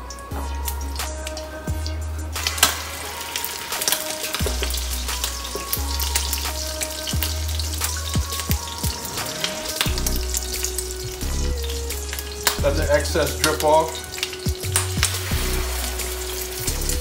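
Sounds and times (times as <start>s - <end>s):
oil sizzling and crackling: 0.0s - 17.0s.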